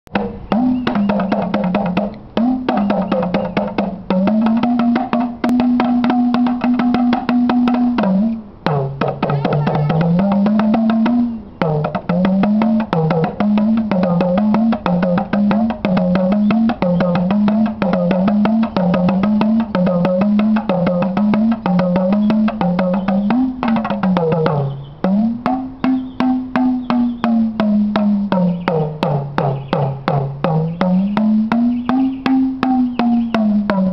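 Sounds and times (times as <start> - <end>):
talking drum pitch bending: 0.1 - 33.9.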